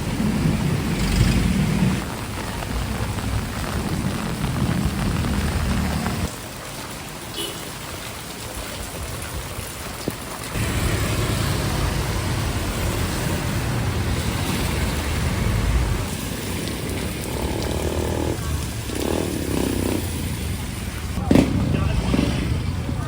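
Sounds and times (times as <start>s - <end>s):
vehicle engine running: 0.0s - 6.3s, 10.6s - 23.0s
heavy rain pouring: 0.0s - 23.0s.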